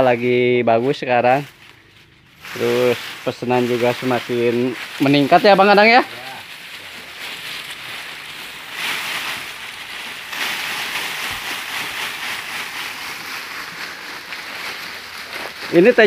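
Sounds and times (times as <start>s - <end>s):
dry leaves rustling: 0.0s - 16.0s.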